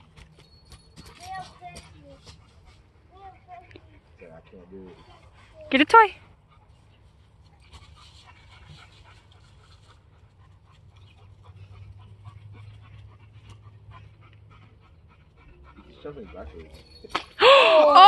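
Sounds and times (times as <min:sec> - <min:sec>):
puppy panting: 0:00.0 - 0:17.2.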